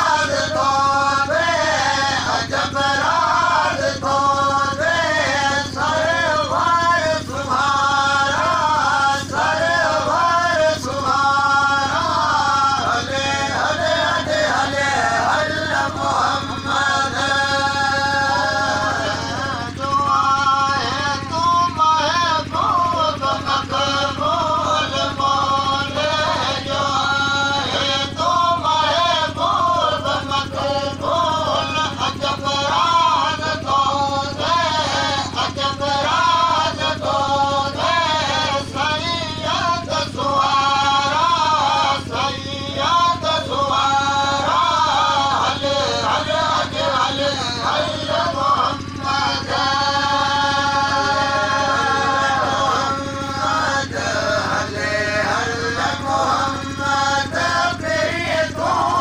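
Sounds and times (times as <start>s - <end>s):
man singing a chant-like song: 0.0s - 59.0s.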